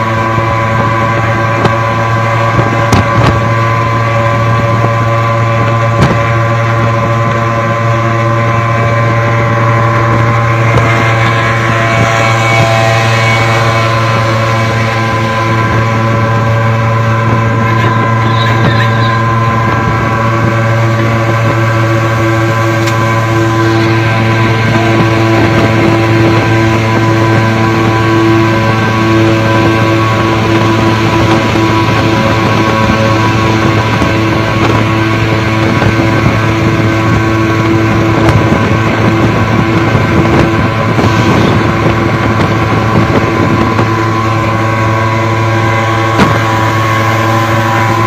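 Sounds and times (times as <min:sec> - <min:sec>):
two-stroke engines buzzing: 0:00.0 - 0:48.0
wind on microphone: 0:00.0 - 0:48.0.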